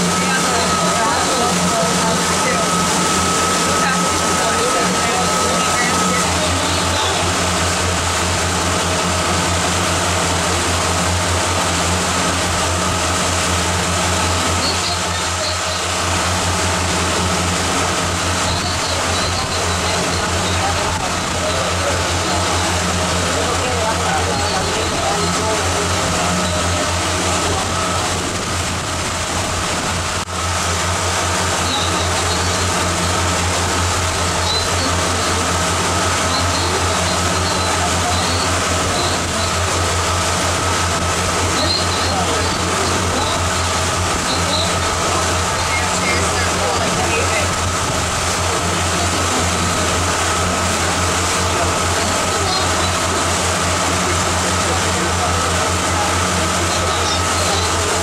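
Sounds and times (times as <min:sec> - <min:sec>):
boat engine humming: 0:00.0 - 0:58.0
faint steady whine: 0:00.0 - 0:58.0
water rushing along hull: 0:00.0 - 0:58.0.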